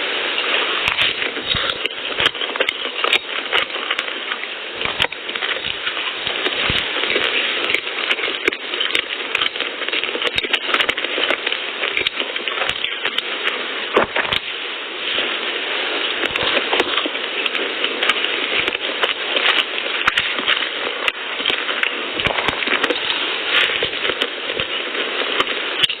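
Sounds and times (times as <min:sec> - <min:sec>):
steady crackle: 0:00.0 - 0:26.0
wet chewing and mouth smacks: 0:00.8 - 0:14.5, 0:16.1 - 0:26.0.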